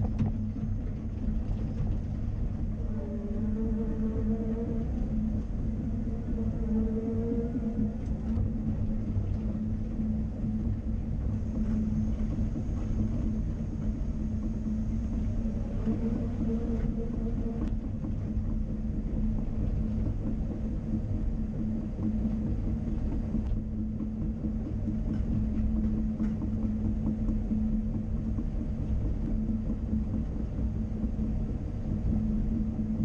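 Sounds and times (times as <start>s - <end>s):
excavator diesel engine running: 0.0s - 29.2s.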